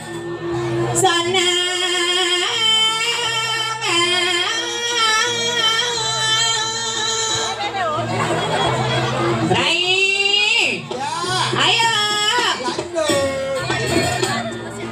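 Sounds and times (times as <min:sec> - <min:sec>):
instrumental accompaniment: 0:00.0 - 0:14.9.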